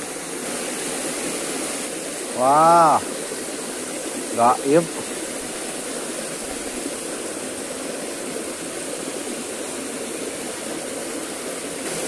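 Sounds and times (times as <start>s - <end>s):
stream spilling over rocks: 0.0s - 12.0s.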